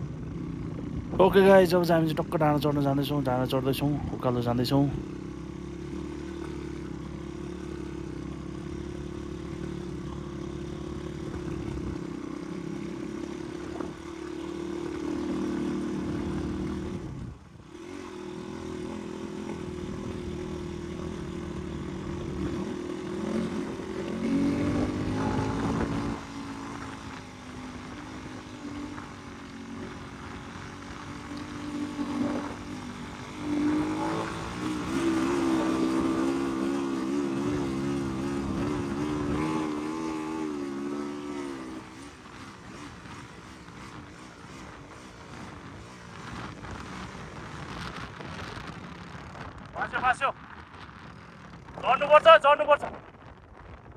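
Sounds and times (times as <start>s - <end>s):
dirt bike engine revving: 0.0s - 44.7s.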